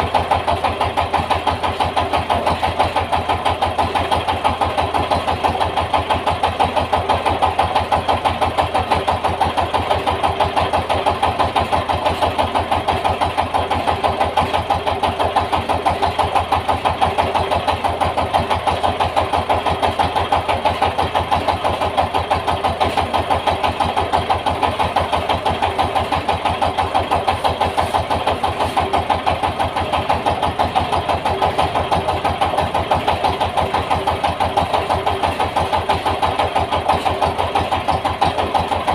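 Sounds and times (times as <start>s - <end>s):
diesel engine chugging: 0.0s - 38.9s
rice milling machine: 0.0s - 38.9s.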